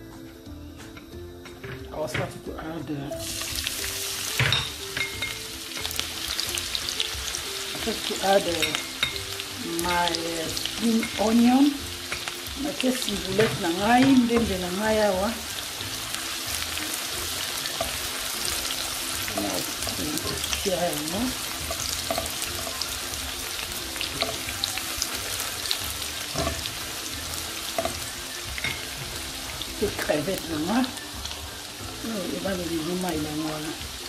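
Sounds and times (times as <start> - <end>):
onions sizzling in hot oil: 1.6 - 34.0.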